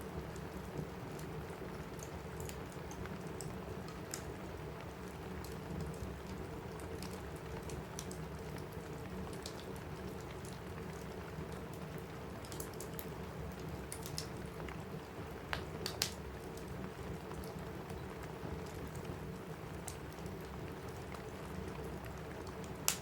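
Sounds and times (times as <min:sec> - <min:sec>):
rain on a roof: 0:00.0 - 0:23.0
wood fire crackling: 0:00.0 - 0:23.0.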